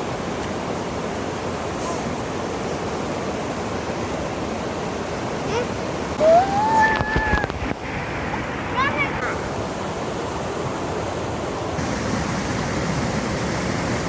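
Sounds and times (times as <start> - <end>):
river rapids and waterfall rushing: 0.0 - 14.0.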